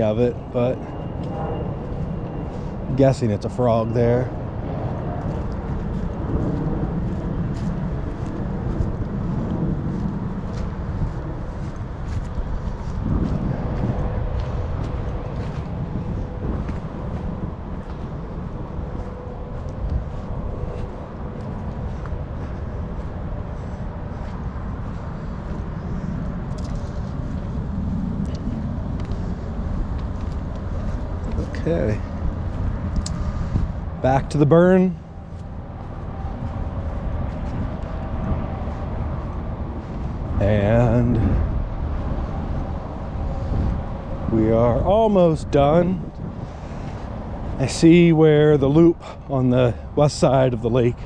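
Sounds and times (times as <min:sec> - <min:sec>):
distant traffic rumble: 0:00.0 - 0:51.0.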